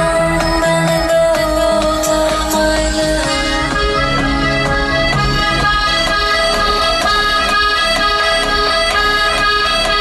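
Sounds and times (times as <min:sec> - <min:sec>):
loud bass-heavy car stereo music: 0:00.0 - 0:10.0.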